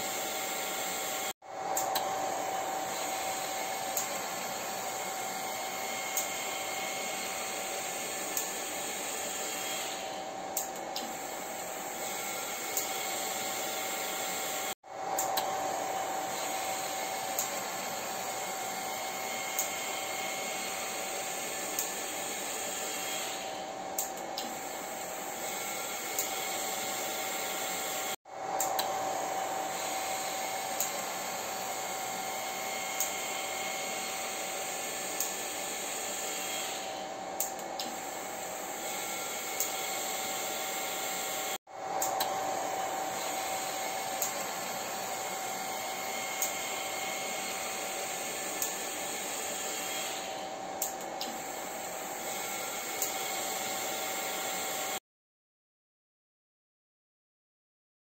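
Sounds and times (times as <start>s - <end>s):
electric blower motor whirring: 0.0s - 55.0s.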